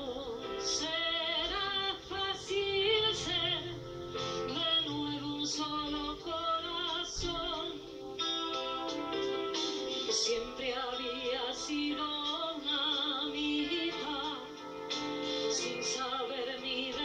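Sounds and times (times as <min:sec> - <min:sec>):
woman singing a ballad: 0:00.0 - 0:08.0, 0:10.0 - 0:17.0.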